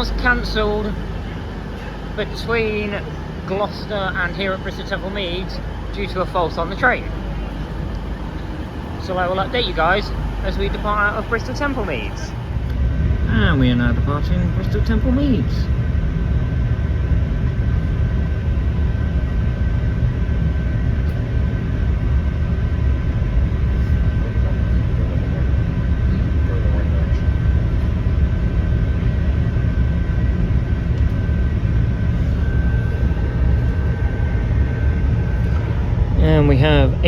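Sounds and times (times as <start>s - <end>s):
thin steady whine: 0.0s - 37.0s
train engine rumble: 0.0s - 37.0s.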